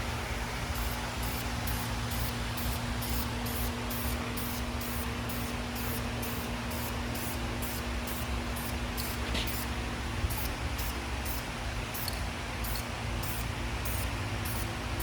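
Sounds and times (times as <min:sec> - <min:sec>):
spray paint hissing: 0:00.7 - 0:09.7, 0:10.3 - 0:14.7.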